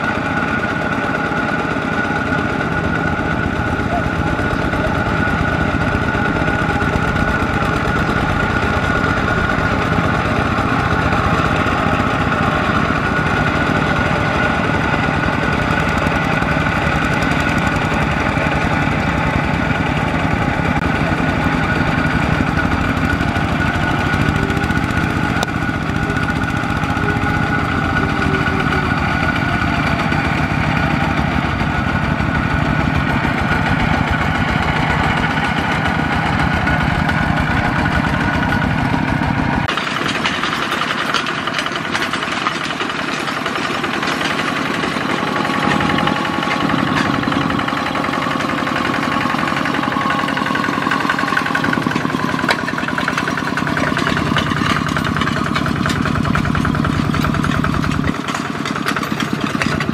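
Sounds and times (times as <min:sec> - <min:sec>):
diesel engine running: 0:00.0 - 0:59.9
wheels churning through mud and water: 0:00.0 - 0:59.9.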